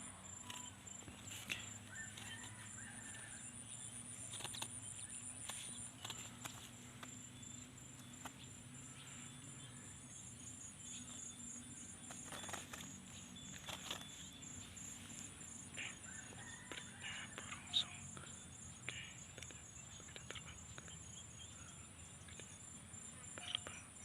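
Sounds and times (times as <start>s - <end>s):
high-pitched insect trill: 0.0s - 24.0s.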